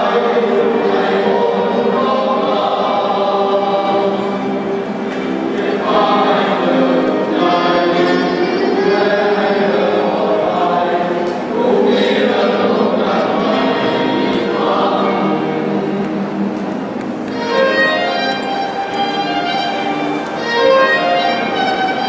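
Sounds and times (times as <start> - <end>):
men's choir singing in harmony: 0.0 - 22.0.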